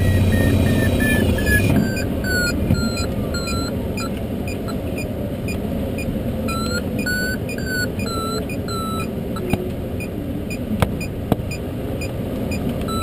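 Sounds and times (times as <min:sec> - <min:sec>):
variometer beeping: 0:00.0 - 0:13.0.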